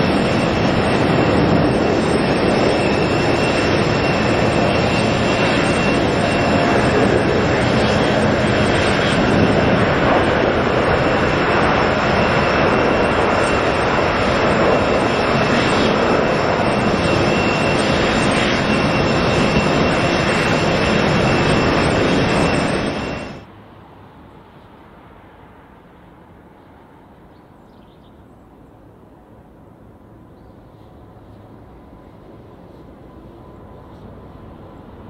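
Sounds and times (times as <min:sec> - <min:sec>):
jet engines running: 0:00.0 - 0:23.5, 0:28.4 - 0:35.0
high engine whine: 0:00.0 - 0:27.6, 0:28.6 - 0:35.0.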